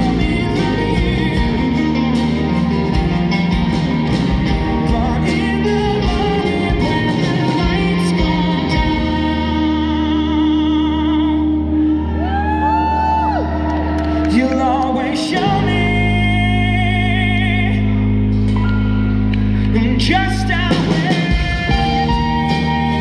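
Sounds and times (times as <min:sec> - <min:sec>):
person singing: 0:00.0 - 0:18.3, 0:19.0 - 0:23.0
bass: 0:00.0 - 0:23.0
drums: 0:00.0 - 0:23.0
guitars: 0:00.0 - 0:23.0
keyboard chords: 0:00.0 - 0:23.0.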